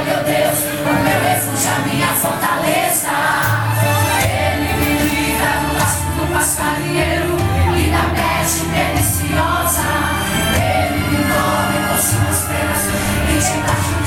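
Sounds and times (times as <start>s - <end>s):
group singing gospel song: 0.0s - 14.0s
steady bass line: 0.0s - 14.0s.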